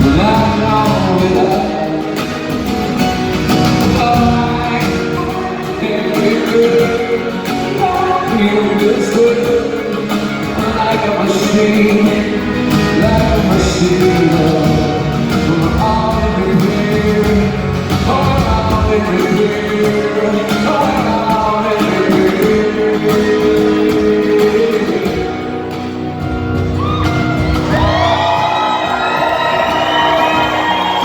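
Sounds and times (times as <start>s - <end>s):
person singing: 0.0s - 2.9s, 3.7s - 25.8s
acoustic guitar: 0.0s - 31.0s.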